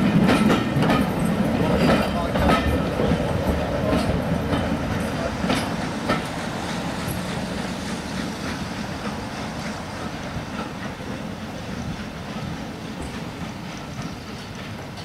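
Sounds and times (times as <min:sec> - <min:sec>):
train rumble: 0:00.0 - 0:15.0
train wheels clicking on rail joints: 0:00.0 - 0:15.0.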